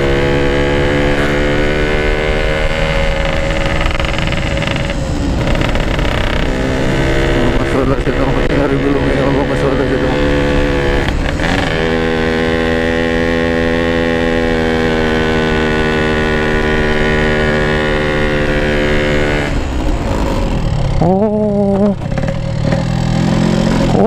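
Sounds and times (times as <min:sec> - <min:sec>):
two-stroke motorcycle engine running: 0:00.0 - 0:24.0.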